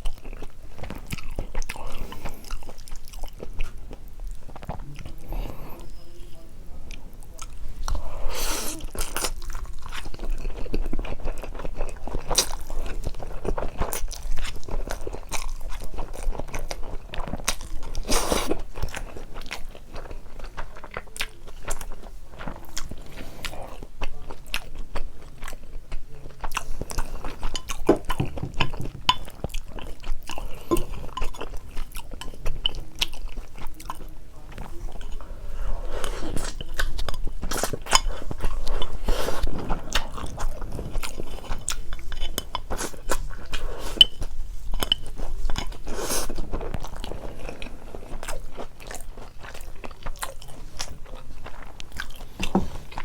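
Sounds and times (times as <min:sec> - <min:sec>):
chewing and biting noodles: 0:00.0 - 0:05.7, 0:07.3 - 0:53.0.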